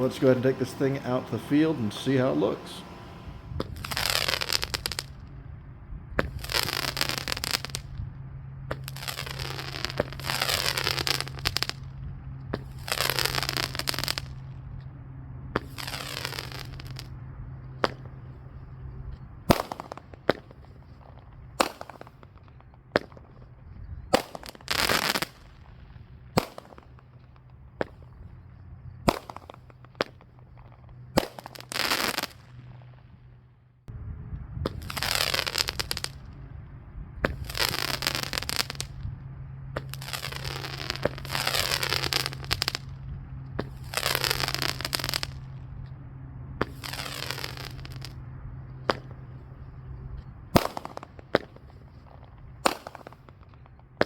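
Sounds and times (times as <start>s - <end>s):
firework shots bursting: 0.0s - 33.3s, 34.6s - 36.4s, 37.2s - 45.9s, 46.6s - 54.0s
steady low hum: 0.0s - 54.0s
crackling pops: 3.6s - 5.3s, 6.2s - 8.1s, 8.7s - 14.9s, 15.6s - 33.4s, 34.4s - 36.4s, 37.2s - 39.1s, 39.7s - 46.0s, 46.6s - 54.0s.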